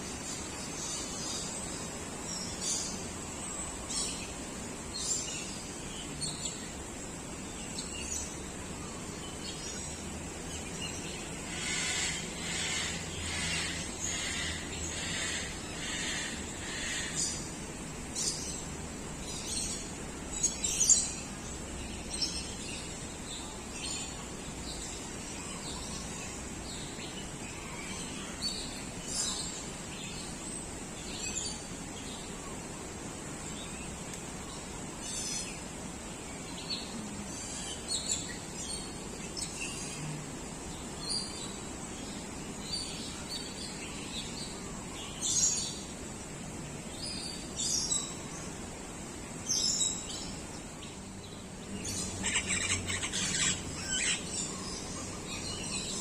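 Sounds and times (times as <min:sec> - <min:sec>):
birds chirping: 0:00.0 - 0:56.0
steady high hiss: 0:00.0 - 0:56.0.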